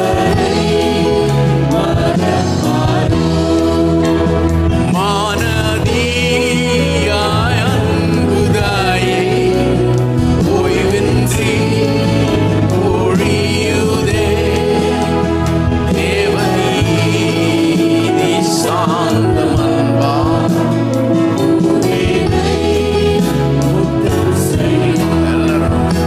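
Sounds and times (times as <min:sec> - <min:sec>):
band accompaniment: 0:00.0 - 0:26.0
congregation singing: 0:00.0 - 0:26.0
man singing lead: 0:00.0 - 0:26.0.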